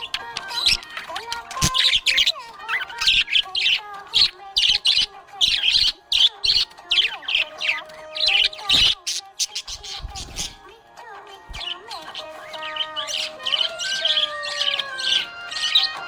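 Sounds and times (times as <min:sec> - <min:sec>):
budgerigar chirping and warbling: 0:00.0 - 0:10.7, 0:11.4 - 0:16.0.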